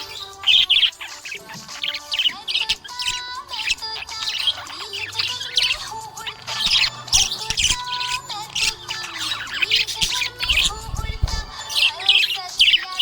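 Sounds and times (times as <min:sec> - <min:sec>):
budgies chirping and warbling: 0:00.0 - 0:13.0.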